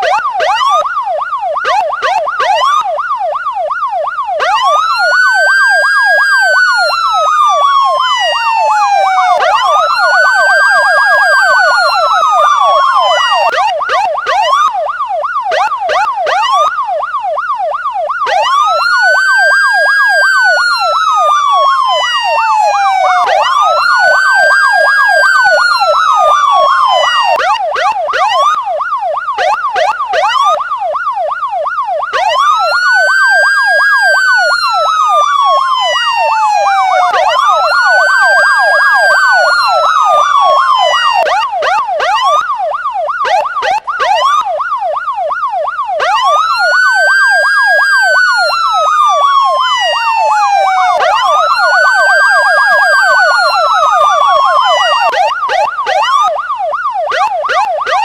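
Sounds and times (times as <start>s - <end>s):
police siren wail: 0.0s - 58.0s
siren fast yelp: 0.0s - 58.0s
siren rapid warble: 0.0s - 58.0s.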